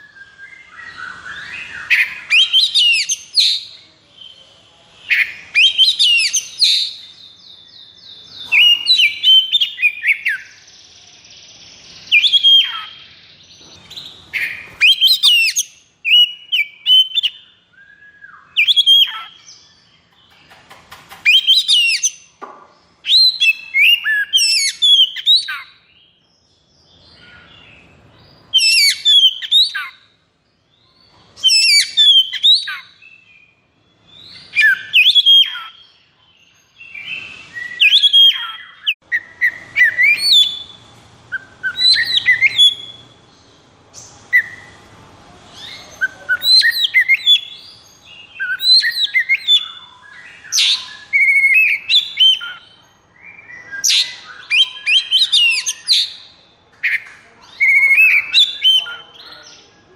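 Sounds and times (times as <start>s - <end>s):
bird whistles and trills: 0.0s - 7.4s, 8.1s - 10.7s, 11.5s - 19.7s, 20.3s - 22.3s, 23.0s - 25.9s, 28.4s - 30.1s, 31.1s - 33.3s, 34.0s - 35.8s, 36.8s - 43.1s, 44.0s - 44.8s, 45.5s - 59.3s.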